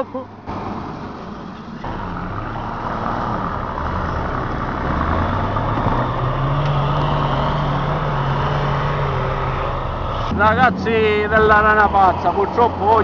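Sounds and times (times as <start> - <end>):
off-road vehicle driving past: 1.8 - 13.0.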